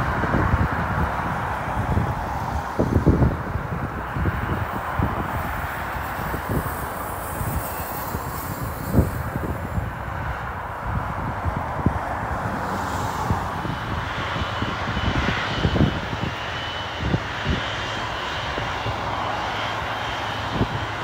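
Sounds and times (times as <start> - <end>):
jet engines whooshing hiss: 0.0 - 21.0
thin high engine whine: 0.4 - 21.0.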